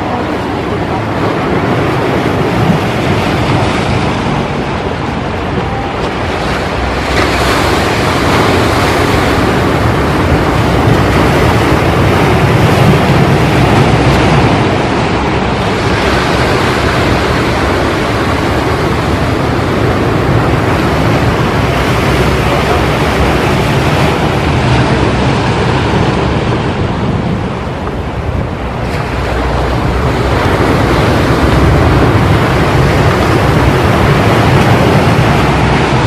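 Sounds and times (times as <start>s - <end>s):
ocean surf washing: 0.0s - 36.0s
wind buffeting microphone: 0.0s - 36.0s.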